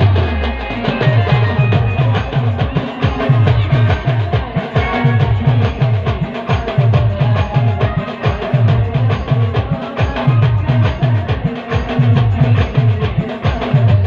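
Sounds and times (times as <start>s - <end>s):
fast drum beat: 0.0s - 14.0s.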